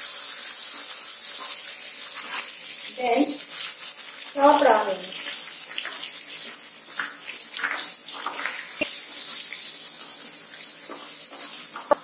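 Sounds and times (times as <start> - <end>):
onion sizzling in hot oil: 0.0 - 12.0
spatula stirring in pan: 0.0 - 12.0.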